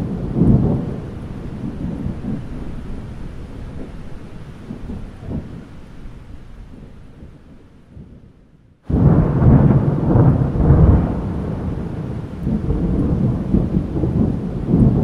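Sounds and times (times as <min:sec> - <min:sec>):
deep rolling thunder: 0:00.0 - 0:15.0
heavy rain: 0:00.0 - 0:15.0.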